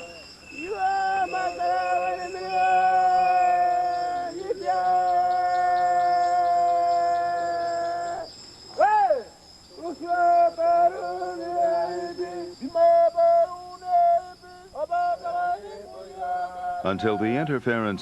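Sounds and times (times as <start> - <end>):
people chanting: 0.0 - 8.3, 9.8 - 17.4
whooping call: 0.0 - 17.5.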